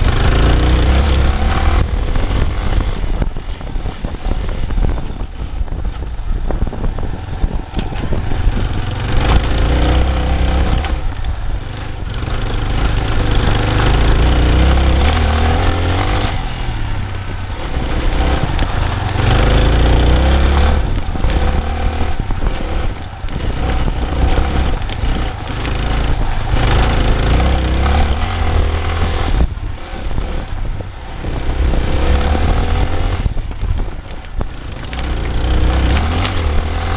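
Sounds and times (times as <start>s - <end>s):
dirt bike engine revving: 0.0s - 5.0s, 7.8s - 33.8s, 34.4s - 36.9s
heavy low rumble: 0.0s - 36.9s.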